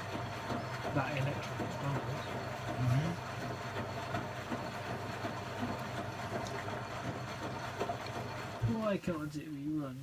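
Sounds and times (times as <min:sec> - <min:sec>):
washing machine humming: 0:00.0 - 0:10.0.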